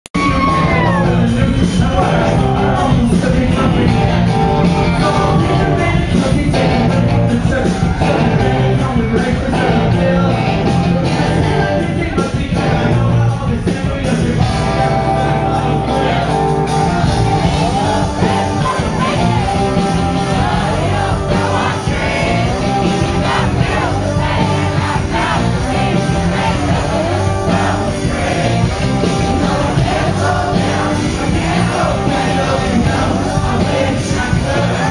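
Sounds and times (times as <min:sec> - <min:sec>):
rock band playing live: 0:00.1 - 0:34.9
male lead singer: 0:00.2 - 0:34.9.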